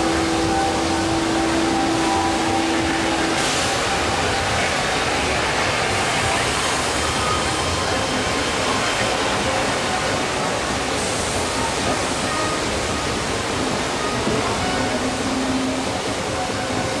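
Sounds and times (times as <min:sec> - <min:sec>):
faint music: 0:00.0 - 0:17.0
water rushing down canyon: 0:00.0 - 0:17.0.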